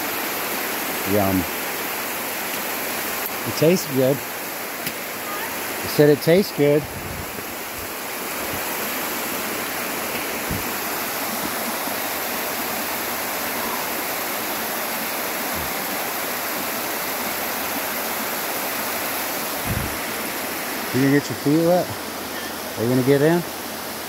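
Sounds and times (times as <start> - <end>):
waterfall rushing over rock: 0.0 - 24.0.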